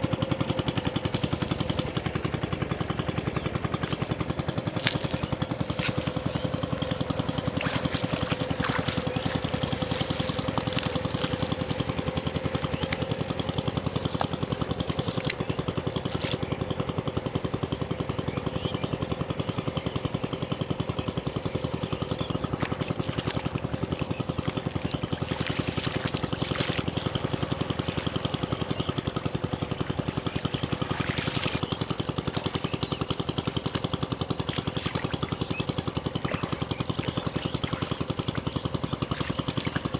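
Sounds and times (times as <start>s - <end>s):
water splashing and trickling: 0.0s - 17.1s, 22.4s - 39.9s
small engine running: 0.0s - 39.9s.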